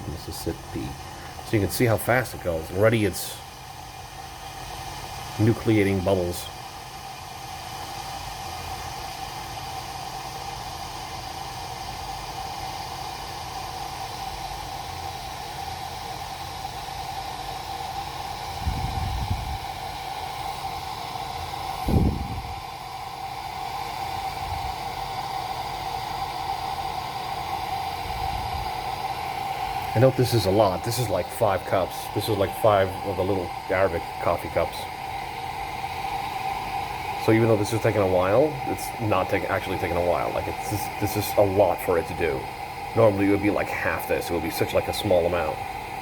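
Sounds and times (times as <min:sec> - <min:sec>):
water heating with steady hiss: 0:00.0 - 0:46.0.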